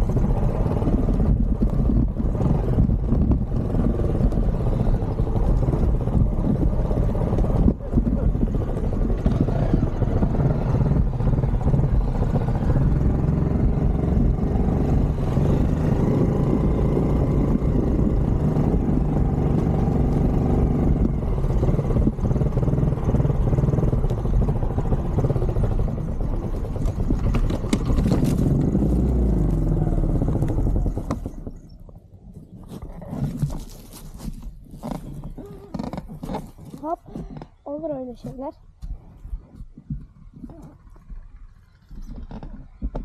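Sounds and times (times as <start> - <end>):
clatter: 0.0 - 37.6, 39.5 - 43.0
off-road motorcycle engine: 0.0 - 43.0.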